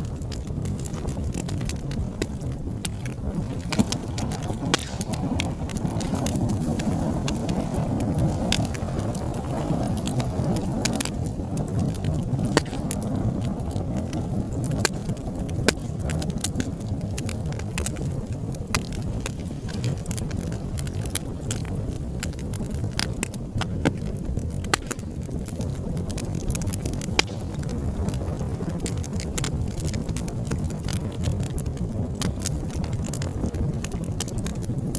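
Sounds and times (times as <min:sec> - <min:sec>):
low roar of flames: 0:00.0 - 0:34.9
wood fire crackling and popping: 0:00.0 - 0:34.9.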